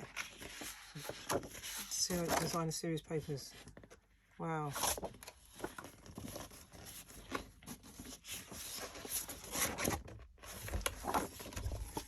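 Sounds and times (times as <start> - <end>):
paper sheets rustling and sliding: 0.0 - 3.4, 4.7 - 12.0.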